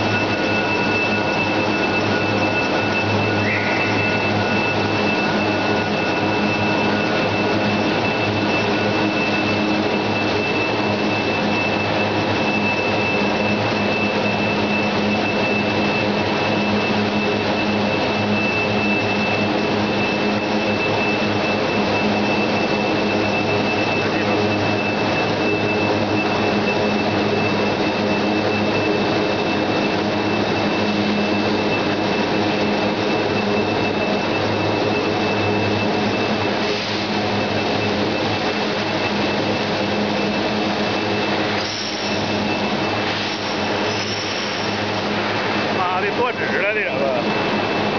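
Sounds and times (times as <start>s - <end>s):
constant low hum: 0.0s - 47.9s
steady high whine: 0.0s - 47.9s.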